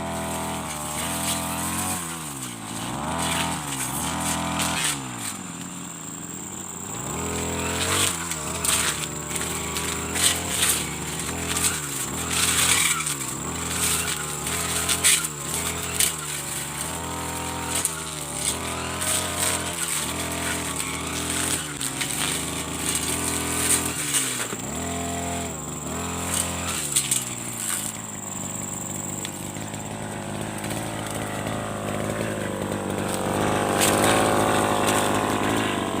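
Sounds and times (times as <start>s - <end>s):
brush cutter engine cutting: 0.0s - 36.0s.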